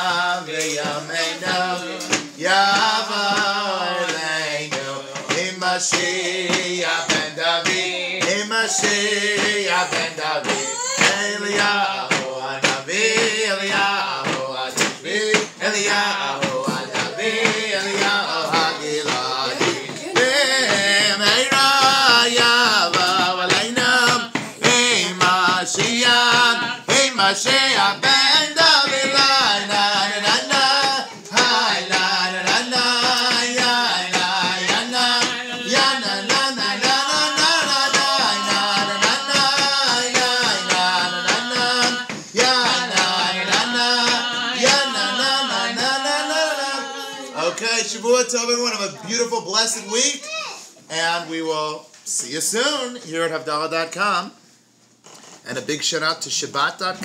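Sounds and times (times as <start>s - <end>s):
struck beat: 0.0s - 47.6s
men singing together: 0.0s - 49.1s.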